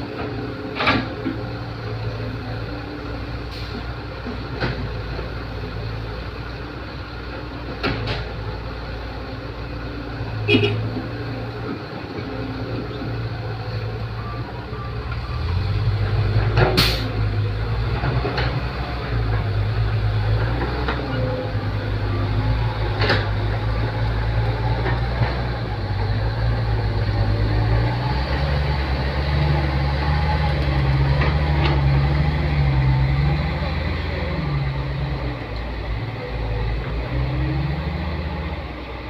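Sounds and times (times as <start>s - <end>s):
excavator diesel engine: 0.0s - 39.0s.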